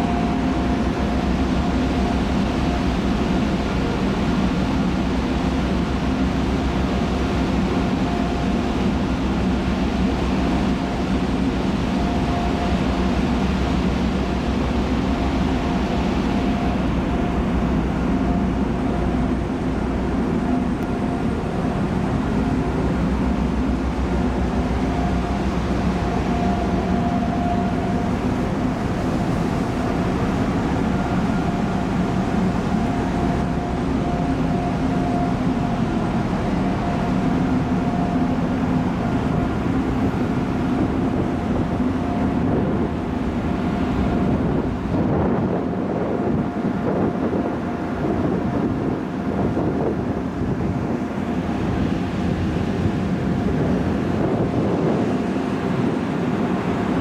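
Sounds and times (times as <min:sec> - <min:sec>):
ferry engine drone: 0:00.0 - 0:57.0.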